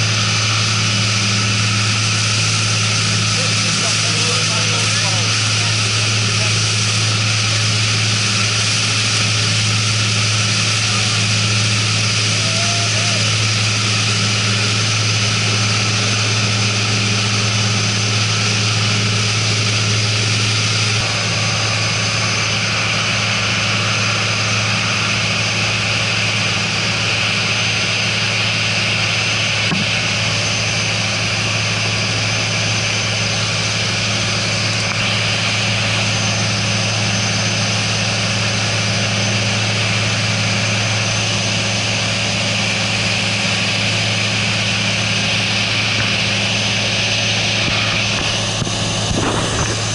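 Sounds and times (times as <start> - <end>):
boat engines droning: 0.0 - 49.9
wind: 0.0 - 49.9.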